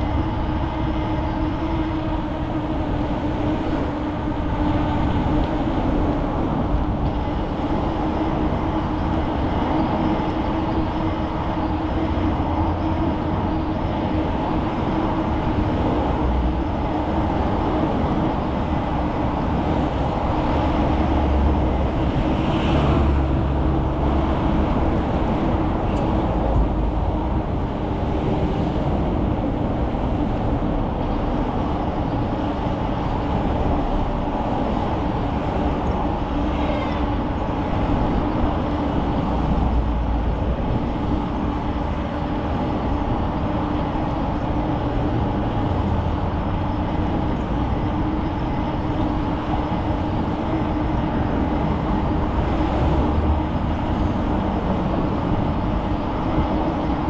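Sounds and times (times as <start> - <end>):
steady low hum: 0.0 - 57.0
wind rumble on microphone: 0.0 - 57.0.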